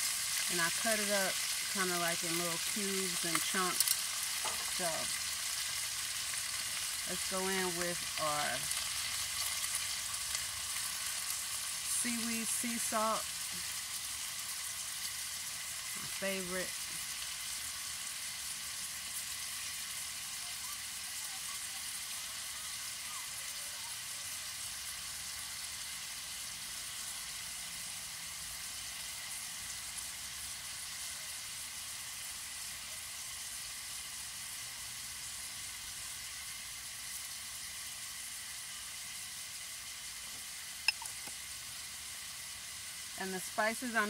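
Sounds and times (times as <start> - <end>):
meat sizzling in fat: 0.0 - 44.0.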